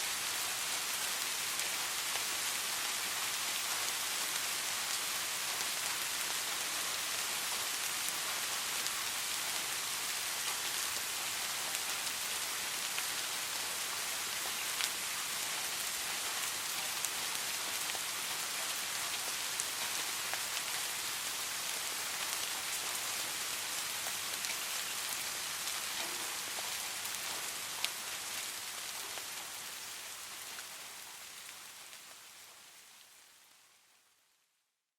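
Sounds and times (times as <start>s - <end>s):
soft steady rain: 0.0s - 34.9s.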